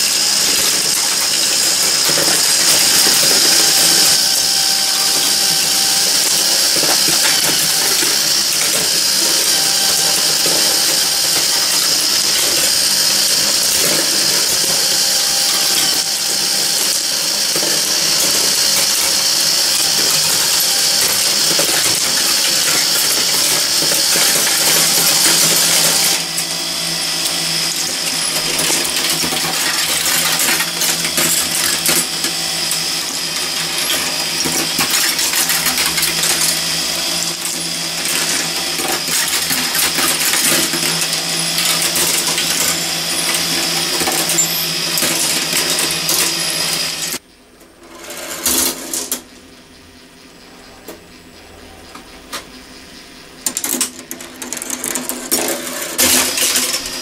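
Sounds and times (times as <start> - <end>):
marbles clicking on metal tracks: 0.0 - 47.2, 47.8 - 49.3, 53.4 - 57.0
steady mechanical hum: 0.0 - 57.0.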